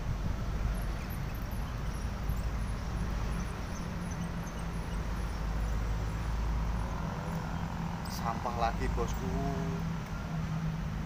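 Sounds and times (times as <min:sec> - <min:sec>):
traffic rumble overhead: 0:00.0 - 0:11.0.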